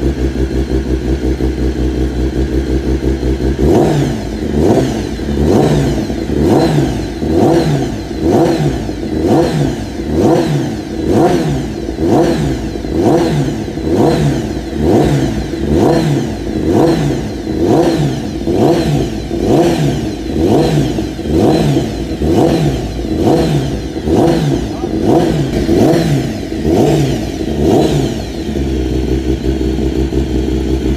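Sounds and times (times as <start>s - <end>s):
motorcycle engine idling: 0.0s - 30.9s
motorcycle engine revving: 0.0s - 30.9s.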